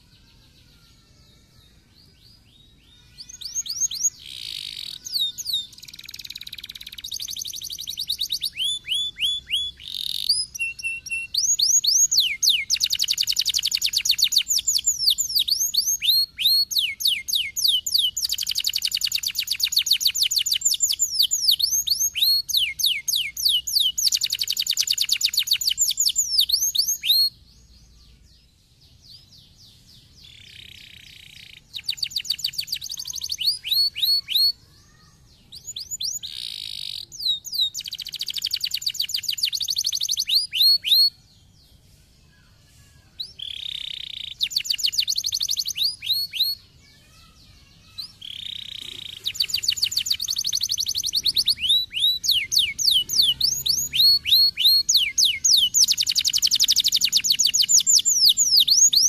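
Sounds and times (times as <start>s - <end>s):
canary singing trills: 0.0s - 41.6s, 43.2s - 59.0s.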